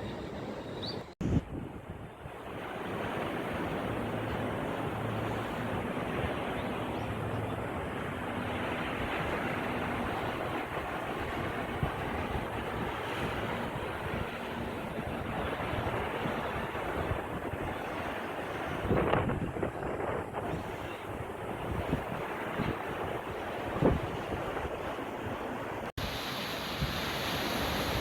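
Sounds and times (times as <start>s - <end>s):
wind buffeting microphone: 0.0s - 28.0s
sea waves washing on shore: 1.4s - 28.0s.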